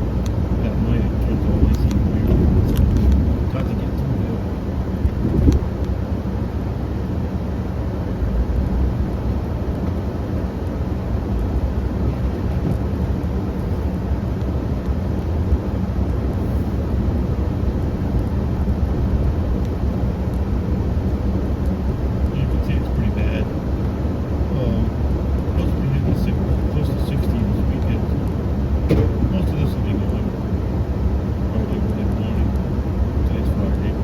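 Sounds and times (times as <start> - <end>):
snow plow engine rumbling: 0.0 - 34.0.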